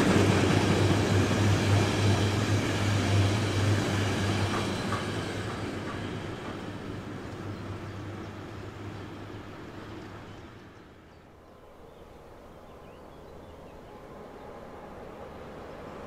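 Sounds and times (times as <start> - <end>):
approaching freight train rumble: 0.0 - 16.0
passing train rumble: 0.0 - 16.0.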